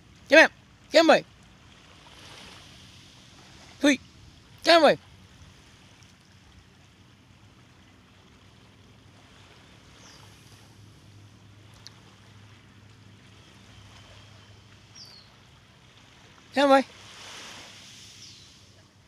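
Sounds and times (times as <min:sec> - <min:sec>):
calm water washing: 0:00.0 - 0:19.0.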